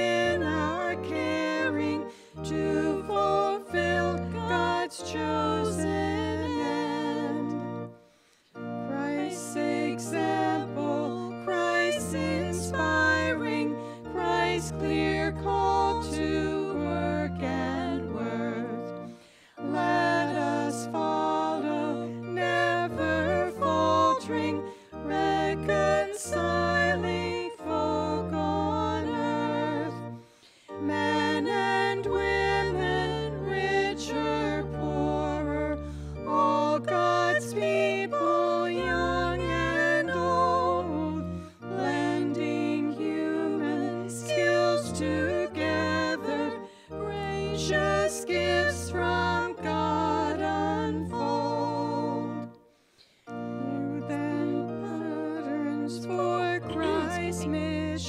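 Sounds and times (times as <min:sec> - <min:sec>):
two women singing a hymn: 0:00.0 - 0:58.0.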